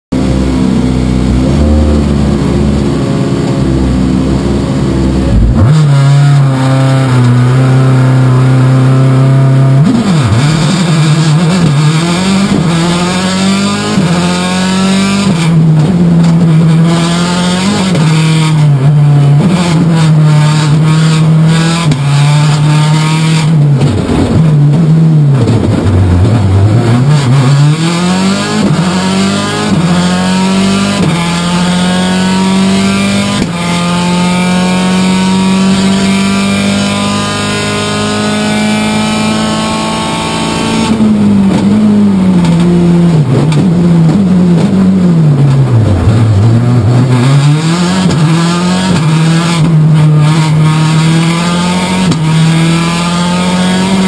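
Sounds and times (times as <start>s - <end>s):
rally car engine revving: 0.1s - 54.0s.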